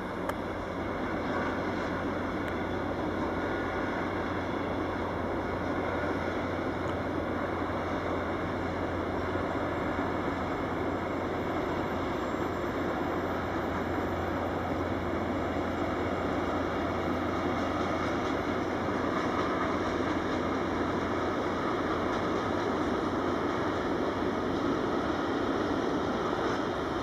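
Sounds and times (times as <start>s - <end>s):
freight wagons rumbling on rails: 0.0s - 27.0s.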